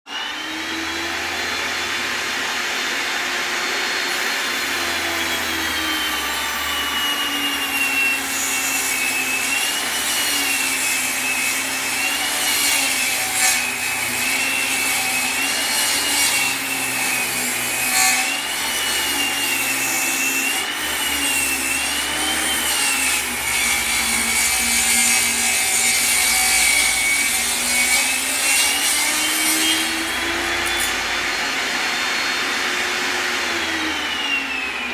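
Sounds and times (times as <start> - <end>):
power saw cutting wood: 0.0 - 34.9.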